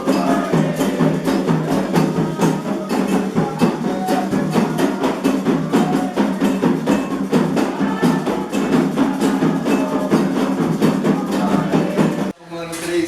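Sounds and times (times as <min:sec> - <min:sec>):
fast drumming: 0:00.0 - 0:13.0
sharp clacking percussion: 0:00.0 - 0:13.0
voices singing a chant: 0:00.0 - 0:13.0.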